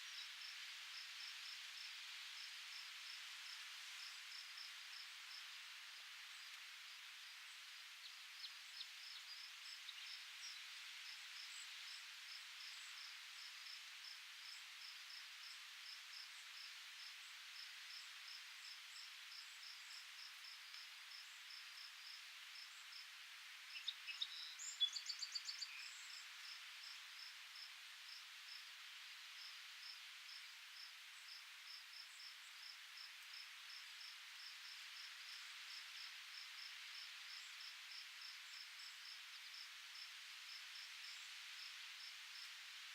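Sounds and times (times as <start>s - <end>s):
soft hiss: 0.0s - 42.9s
insect chirping: 8.1s - 42.7s.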